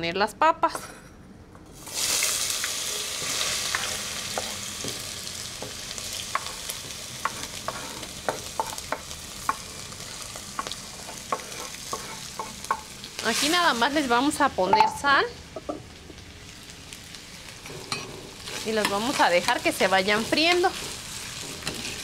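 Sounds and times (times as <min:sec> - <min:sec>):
potatoes sizzling in hot oil: 0:01.8 - 0:15.3, 0:15.9 - 0:22.0.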